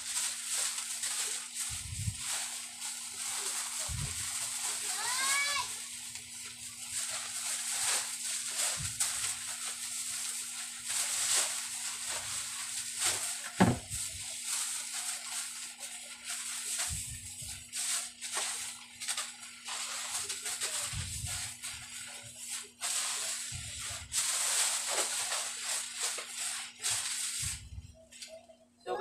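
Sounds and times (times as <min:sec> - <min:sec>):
steady low hum: 0:00.0 - 0:05.0, 0:05.7 - 0:29.0
plastic bags rustling: 0:00.0 - 0:29.0.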